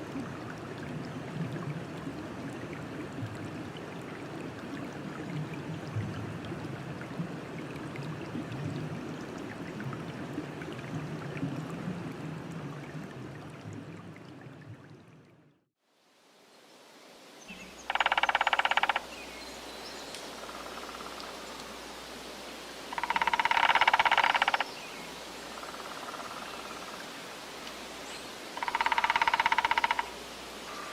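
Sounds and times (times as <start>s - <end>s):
running water: 0.0s - 30.9s.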